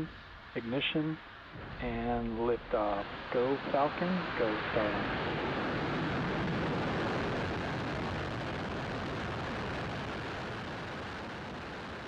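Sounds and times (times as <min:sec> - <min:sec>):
rocket exhaust roar: 0:01.2 - 0:12.0.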